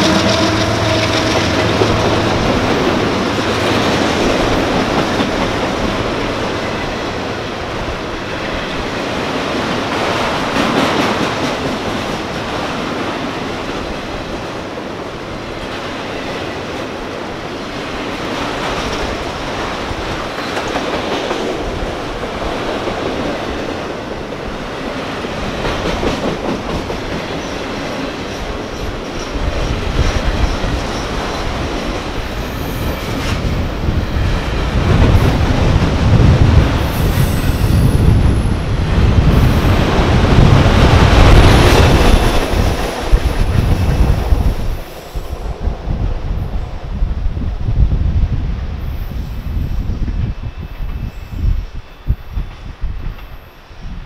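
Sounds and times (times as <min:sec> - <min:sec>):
train wheels clickety-clack: 0:00.0 - 0:07.3, 0:08.2 - 0:14.5, 0:17.7 - 0:45.8, 0:49.5 - 0:53.7.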